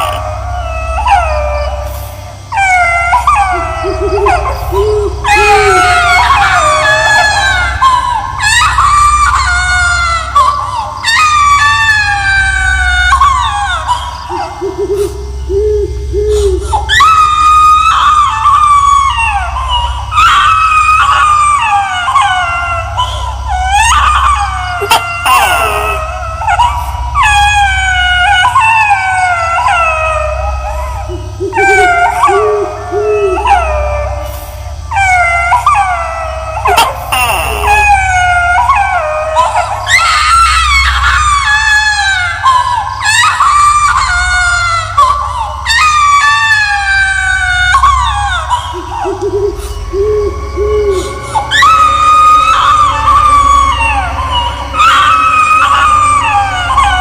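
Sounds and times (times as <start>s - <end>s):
ghostly baby crying and screaming: 0.0s - 57.0s
high wailing cries: 0.0s - 57.0s
steady low drone: 0.0s - 57.0s.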